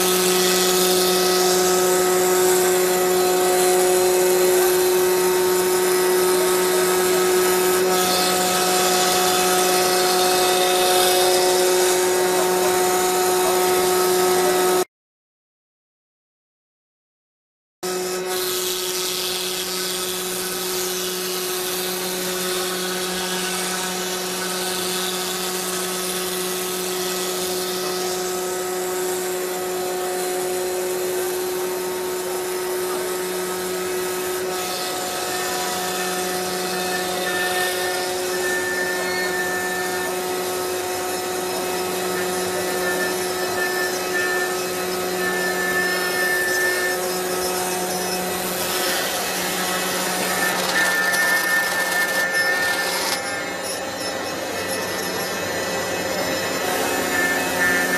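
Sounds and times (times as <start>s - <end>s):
router spindle whine: 0.0s - 14.8s, 17.9s - 57.9s.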